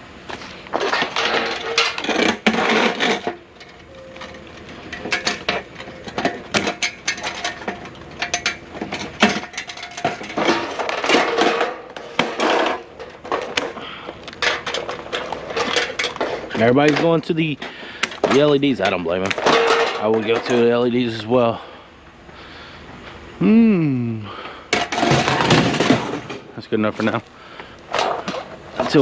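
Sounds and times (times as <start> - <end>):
scrap clanking and rattling: 0.3 - 21.2, 24.4 - 29.0.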